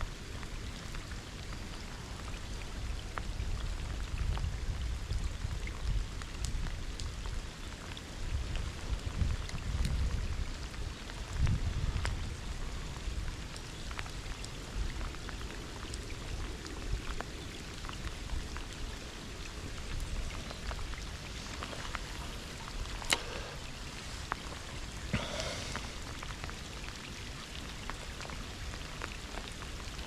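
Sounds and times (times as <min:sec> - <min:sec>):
raindrops tapping: 0:00.2 - 0:30.0.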